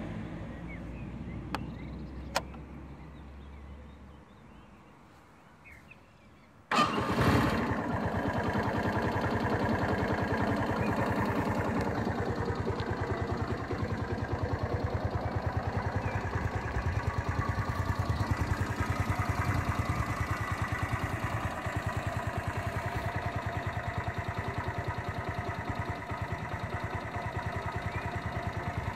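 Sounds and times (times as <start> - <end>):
motorcycle engine starting and idling: 1.5 - 2.7, 6.7 - 28.9.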